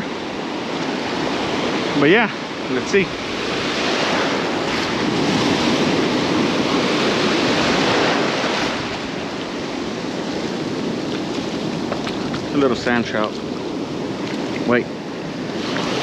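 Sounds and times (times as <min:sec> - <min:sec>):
surf washing in shallows: 0:00.0 - 0:16.0
wind on microphone: 0:00.0 - 0:16.0.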